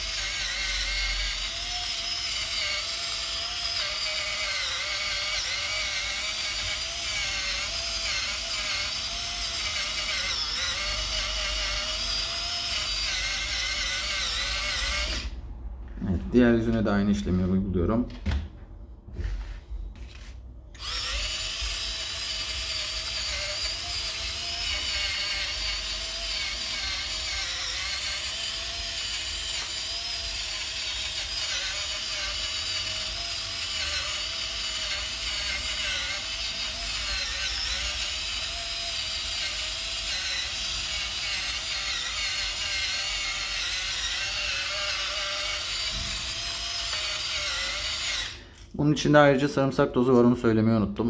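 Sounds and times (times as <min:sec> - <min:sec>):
small electric motor whining: 0:00.0 - 0:15.4, 0:20.1 - 0:48.7.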